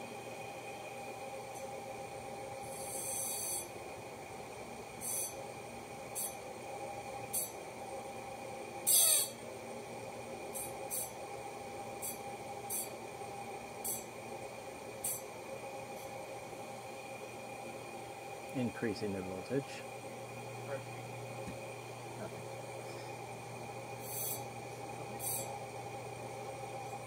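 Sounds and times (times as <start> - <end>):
electric motor humming and whining: 0.0 - 27.0.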